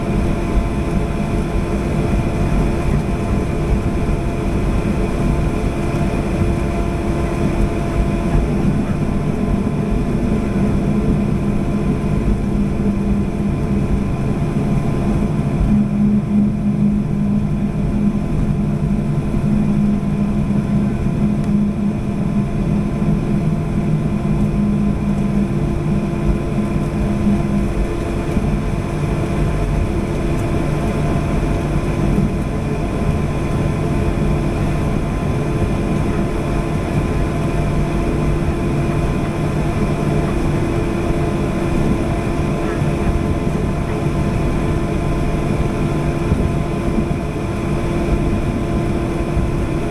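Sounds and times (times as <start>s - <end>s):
airliner engine hum: 0.0s - 49.9s.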